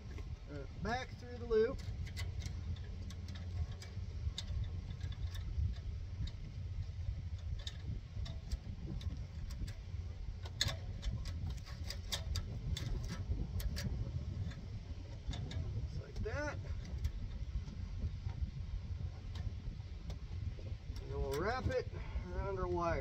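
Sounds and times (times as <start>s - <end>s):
barbed wire clicking: 0.0s - 23.0s
low rumble: 0.0s - 23.0s.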